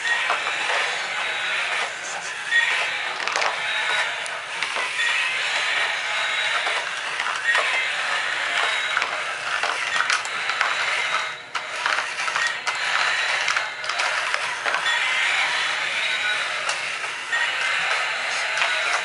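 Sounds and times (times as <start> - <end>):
toy gear motor clattering: 0.0 - 19.0.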